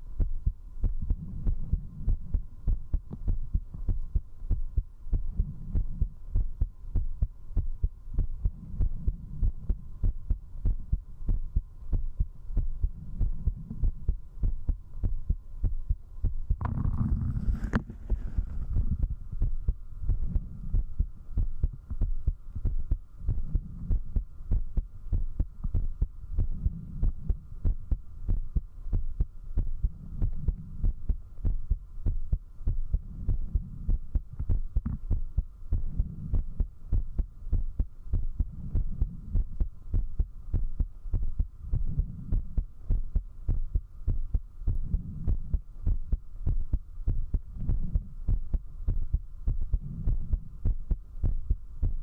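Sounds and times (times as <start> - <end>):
heartbeat thumps: 0.1 - 52.0.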